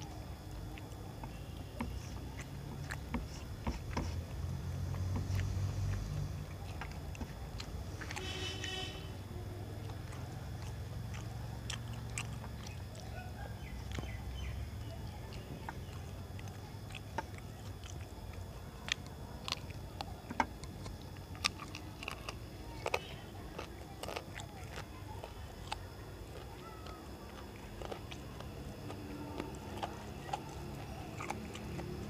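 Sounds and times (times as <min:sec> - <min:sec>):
chewing and mouth sounds: 0:00.0 - 0:32.0.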